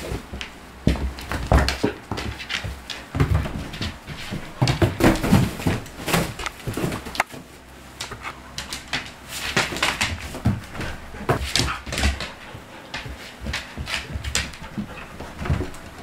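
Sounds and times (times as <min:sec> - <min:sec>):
dogs scuffling on wooden floor: 0:00.0 - 0:16.0.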